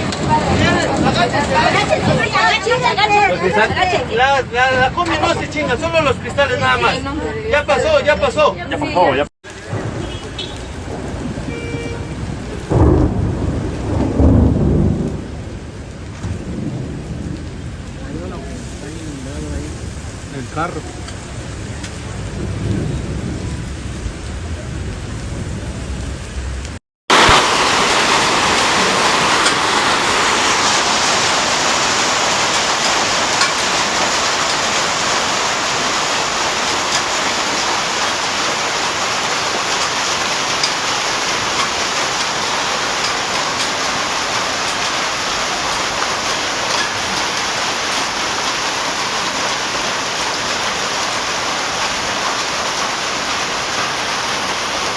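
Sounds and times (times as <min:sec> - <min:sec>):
heavy rain pouring: 0:00.0 - 0:07.0, 0:09.4 - 0:54.9.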